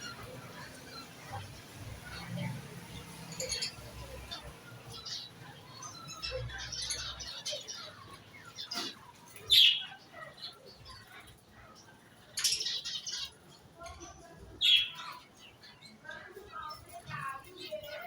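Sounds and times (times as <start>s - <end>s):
cage birds chirping: 0.0s - 18.0s.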